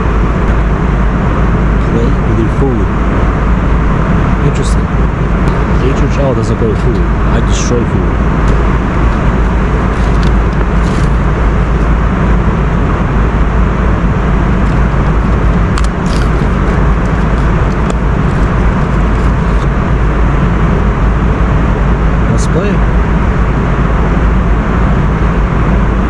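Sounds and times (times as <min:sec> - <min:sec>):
jet airliner cabin noise: 0:00.0 - 0:26.0.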